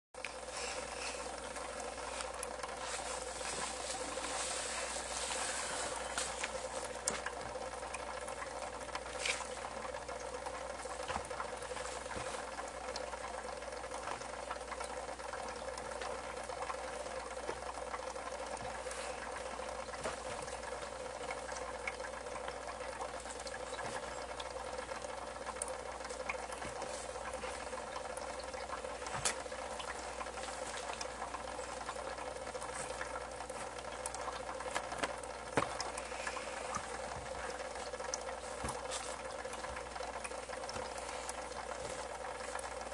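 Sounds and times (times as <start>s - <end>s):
aquarium hum: 0.2s - 42.9s
aquarium water bubbling: 0.2s - 42.9s.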